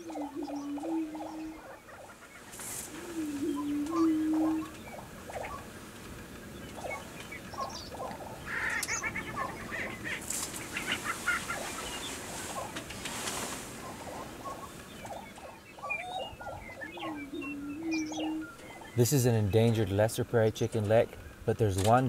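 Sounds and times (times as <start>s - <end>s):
prairie chickens clucking and gobbling: 0.0s - 21.6s.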